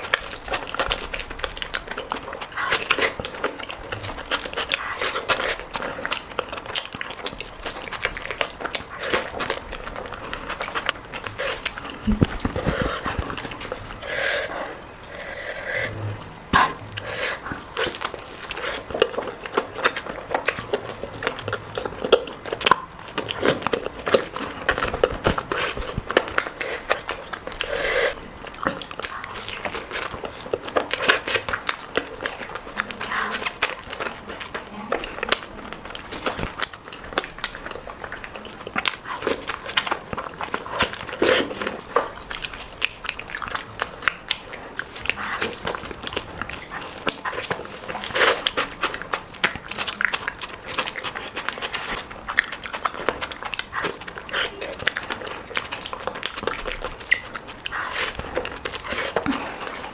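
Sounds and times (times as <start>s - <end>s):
person chewing and smacking: 0.0s - 59.9s.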